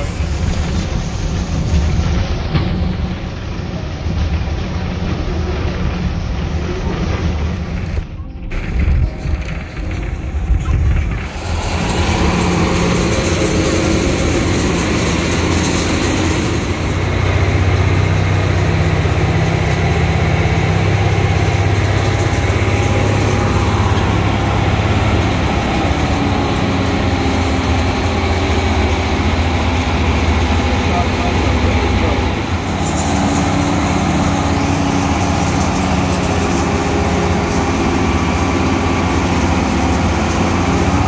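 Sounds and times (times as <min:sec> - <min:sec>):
diesel locomotive engine: 0:00.0 - 0:41.0
train wheels rumbling on track: 0:00.0 - 0:41.0.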